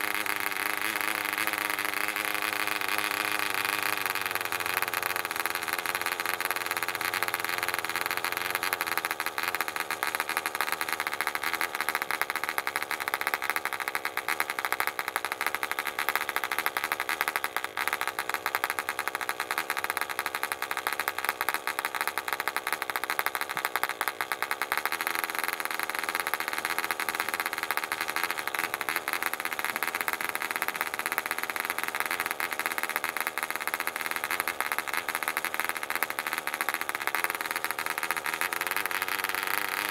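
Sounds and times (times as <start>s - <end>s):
model aircraft engine running: 0.0s - 39.9s.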